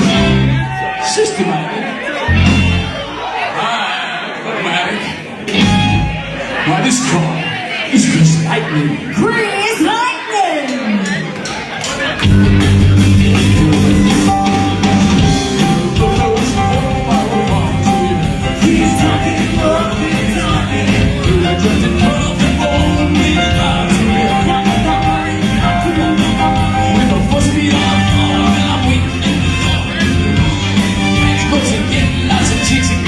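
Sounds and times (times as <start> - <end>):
rock and roll band music: 0.0 - 3.6, 5.3 - 8.7, 11.4 - 33.0.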